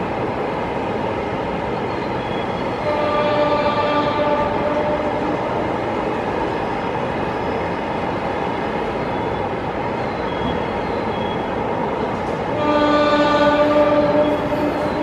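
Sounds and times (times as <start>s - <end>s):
train rumbling slowly: 0.0s - 15.0s.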